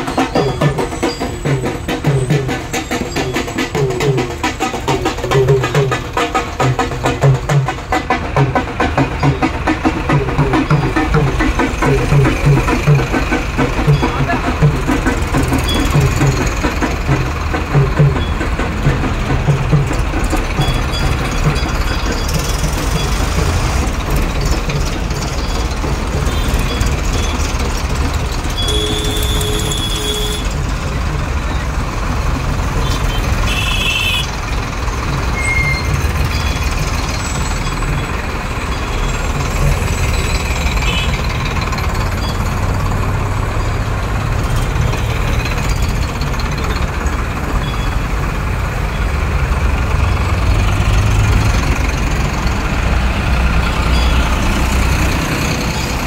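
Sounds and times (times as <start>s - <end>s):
tractor diesel engines rumbling: 0.0s - 56.0s.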